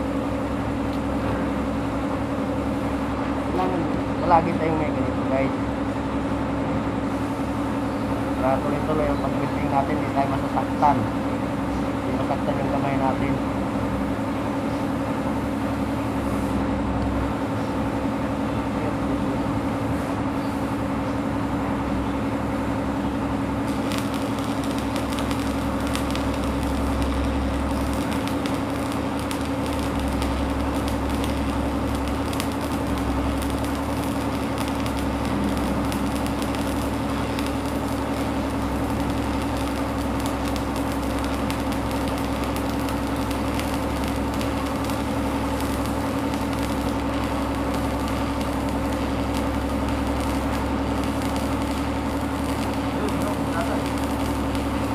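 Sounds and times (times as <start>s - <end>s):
steady low hum: 0.0s - 54.9s
welding arc crackling: 7.0s - 18.4s, 19.0s - 54.9s.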